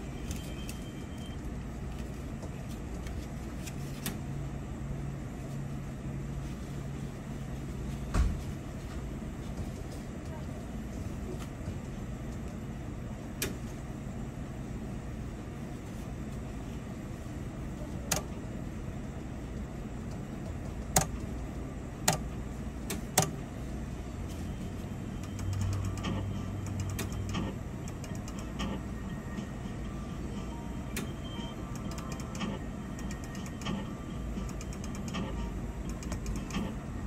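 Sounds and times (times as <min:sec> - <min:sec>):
low background hum: 0:00.0 - 0:37.0.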